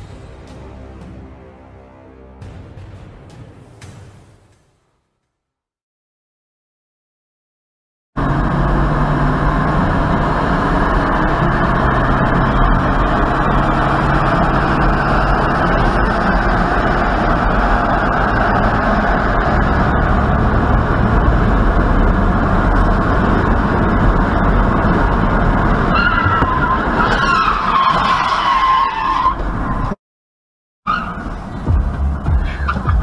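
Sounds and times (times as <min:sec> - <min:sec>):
car road and engine noise: 0:00.0 - 0:03.9, 0:08.2 - 0:30.0, 0:30.9 - 0:33.0.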